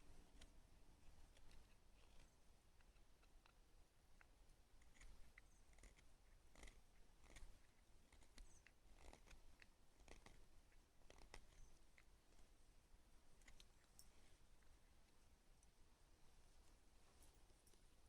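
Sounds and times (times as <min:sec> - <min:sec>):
faint small clicks and crackles: 0:00.0 - 0:15.8, 0:16.5 - 0:18.0.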